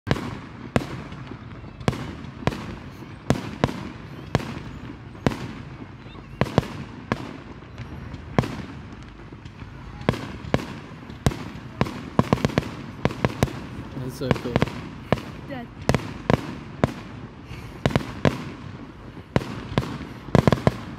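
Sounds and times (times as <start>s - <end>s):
distant fireworks bursting: 0.1s - 20.9s.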